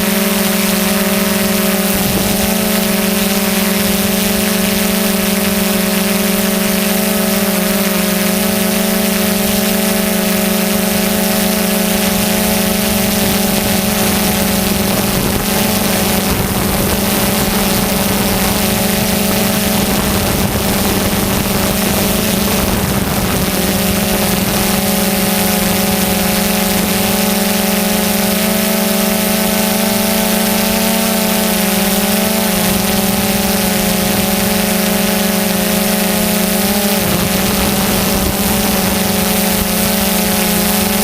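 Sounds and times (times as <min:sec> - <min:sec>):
drone propellers humming: 0:00.0 - 0:41.0.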